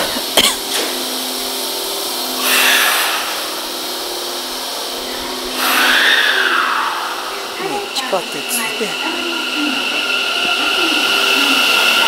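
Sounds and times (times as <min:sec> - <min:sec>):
machinery hum and hiss: 0:00.0 - 0:12.0
rush of hiss: 0:00.0 - 0:12.0.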